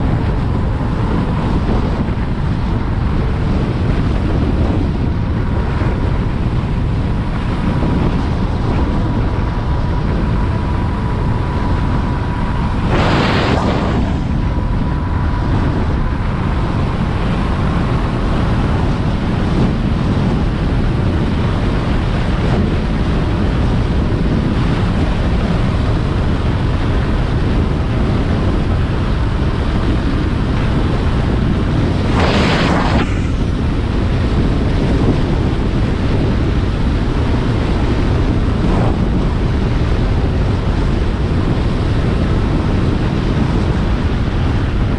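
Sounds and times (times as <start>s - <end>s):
faint steady whine: 0.0s - 44.9s
low rumble: 0.0s - 44.9s
wind buffeting microphone: 0.0s - 44.9s.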